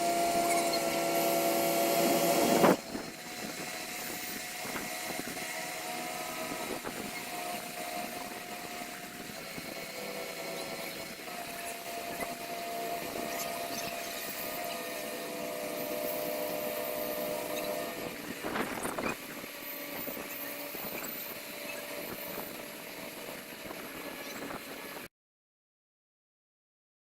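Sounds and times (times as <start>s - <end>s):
heavy machinery engine running: 0.0s - 25.0s
loud noisy burst: 0.0s - 25.0s.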